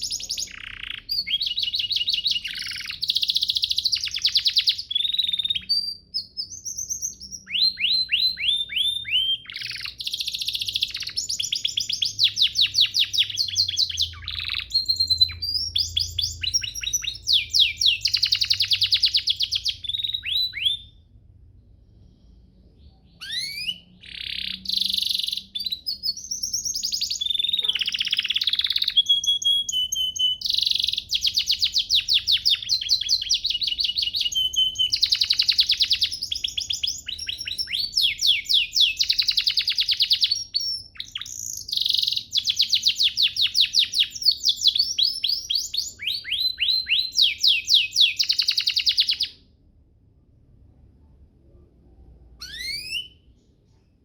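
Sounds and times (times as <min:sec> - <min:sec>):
canary singing trills: 0:00.0 - 0:49.6, 0:52.3 - 0:54.0.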